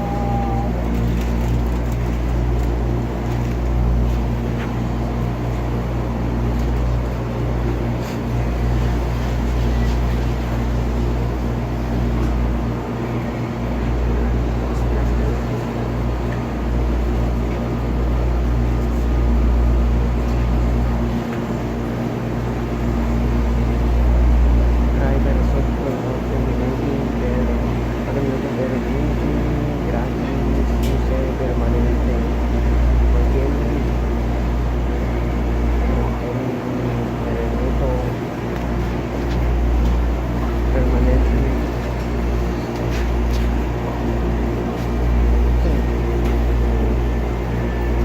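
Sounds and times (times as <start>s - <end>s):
washing machine running: 0.0s - 48.0s.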